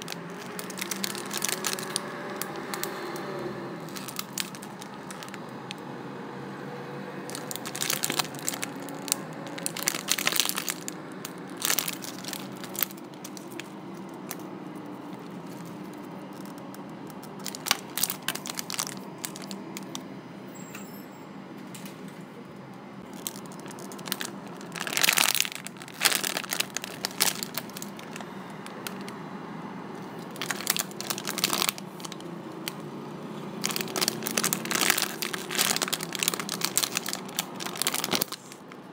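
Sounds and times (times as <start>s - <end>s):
plastic packaging crinkling: 0.0s - 5.8s, 7.3s - 20.0s, 23.0s - 29.1s, 30.2s - 32.8s, 33.6s - 38.8s.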